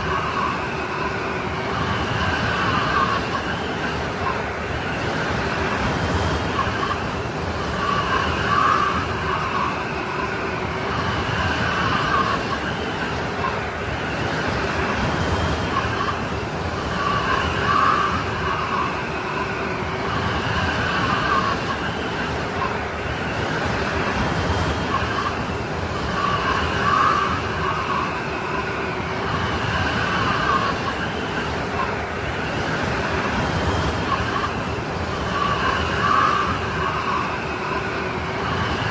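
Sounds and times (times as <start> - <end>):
snowstorm wind whistling: 0.0 - 38.9.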